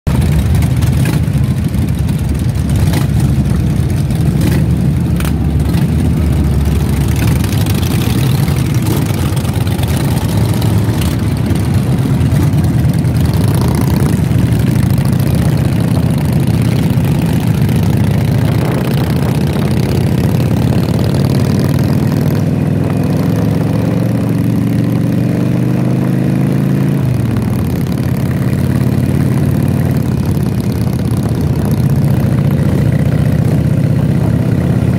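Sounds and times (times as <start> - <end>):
motorcycle engine accelerating: 0.1 - 34.9
motorcycle engine running: 0.1 - 34.9
other motorcycles: 0.1 - 34.9.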